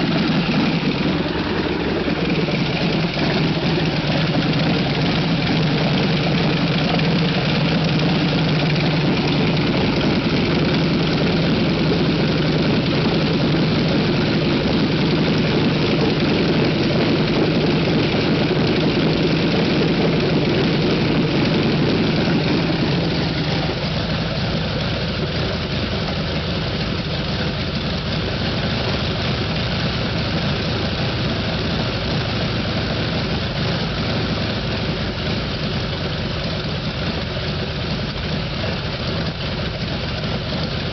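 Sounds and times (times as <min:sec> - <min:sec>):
radial aircraft engine running: 0:00.0 - 0:40.9.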